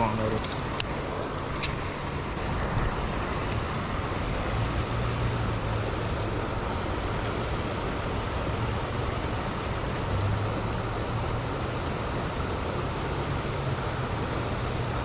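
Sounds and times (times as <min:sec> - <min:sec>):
river water flowing over rocks: 0:00.0 - 0:15.0.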